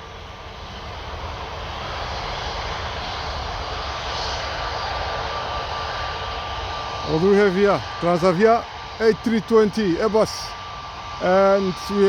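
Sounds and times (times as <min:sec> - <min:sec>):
jet engines rumble and hiss: 0:00.0 - 0:12.0.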